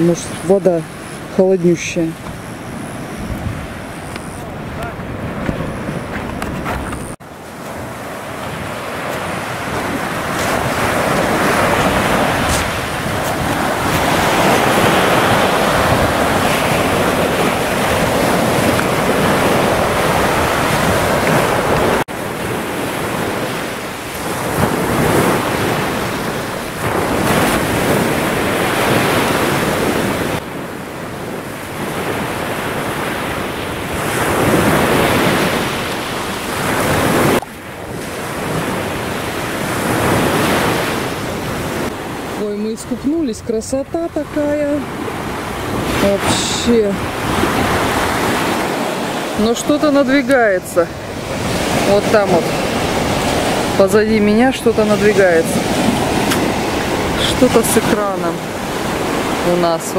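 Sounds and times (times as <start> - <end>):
surf on a pebble beach: 0.0 - 59.9
wind buffeting the microphone: 0.0 - 59.9.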